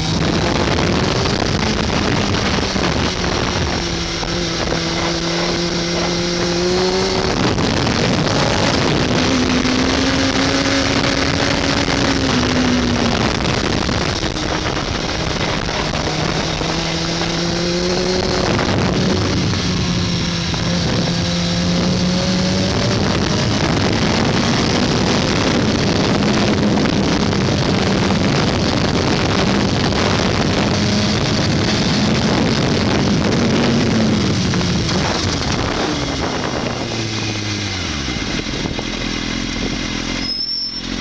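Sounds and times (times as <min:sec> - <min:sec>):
wind rush: 0:00.0 - 0:40.2
motorcycle engine running: 0:00.0 - 0:41.0.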